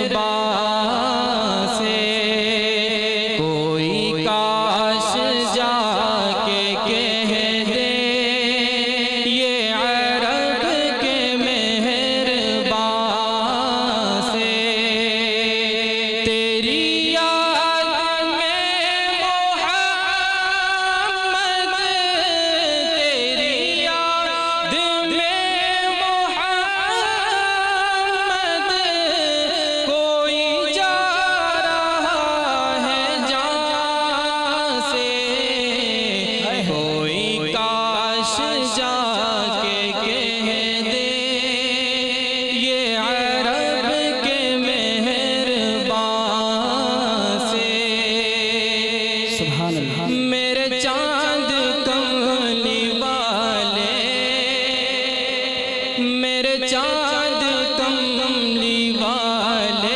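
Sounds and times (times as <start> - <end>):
man singing into a microphone: 0.0 - 59.9.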